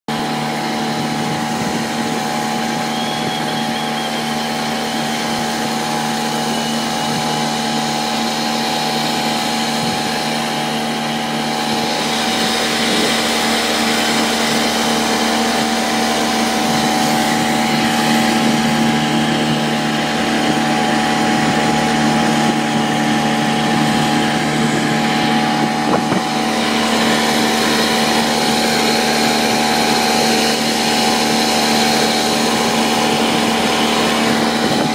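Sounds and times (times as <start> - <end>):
outboard motor running: 0.1 - 34.9.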